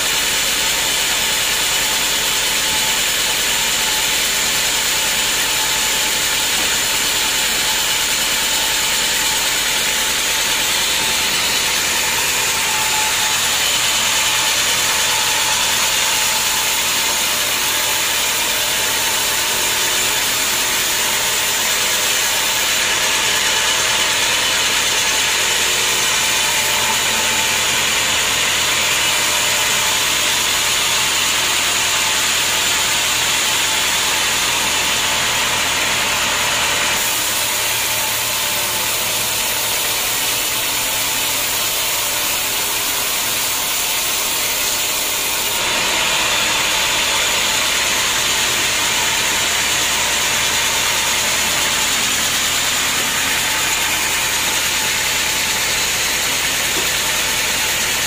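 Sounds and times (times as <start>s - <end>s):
band saw blade whirring: 0.0s - 58.0s.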